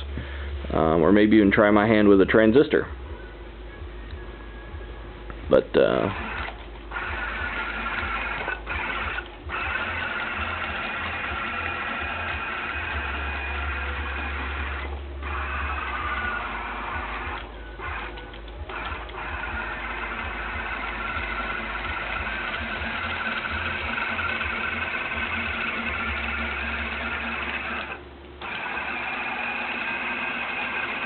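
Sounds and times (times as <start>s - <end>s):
small electric motors whirring: 5.9s - 31.0s.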